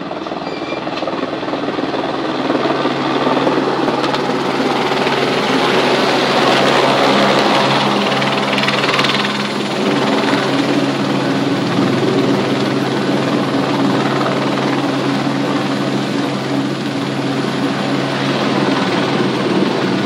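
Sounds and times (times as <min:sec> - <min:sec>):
helicopter engine and rotor running: 0:00.0 - 0:20.0.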